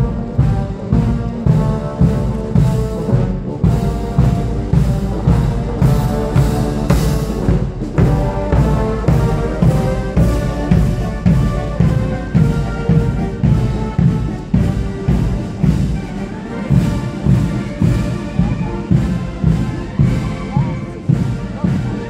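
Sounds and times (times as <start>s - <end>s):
fife and drum band march: 0.0s - 22.0s.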